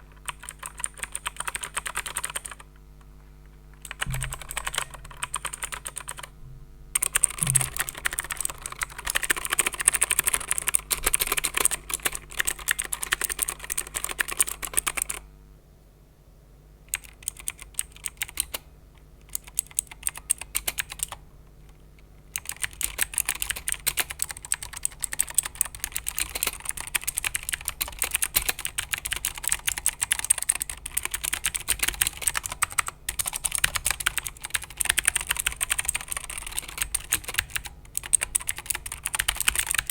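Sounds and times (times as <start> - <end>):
keyboard typing clicks: 0.2 - 2.7, 3.8 - 6.4, 7.0 - 15.2, 16.9 - 18.6, 19.3 - 21.2, 22.4 - 39.9.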